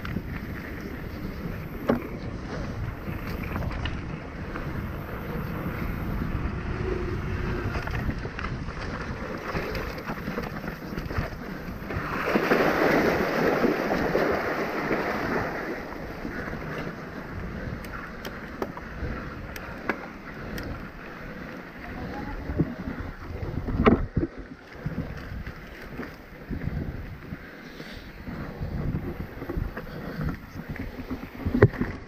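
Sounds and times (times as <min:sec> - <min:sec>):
bike tyre rumble on dirt trail: 0:00.0 - 0:32.0
wind noise on microphone: 0:00.0 - 0:32.0.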